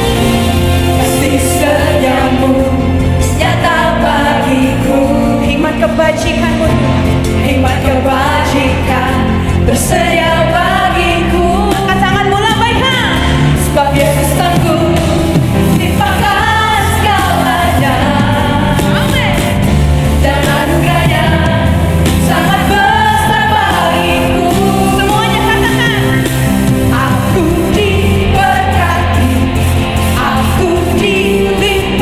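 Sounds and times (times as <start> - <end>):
live band playing worship music: 0.0 - 32.0
person singing: 0.0 - 32.0.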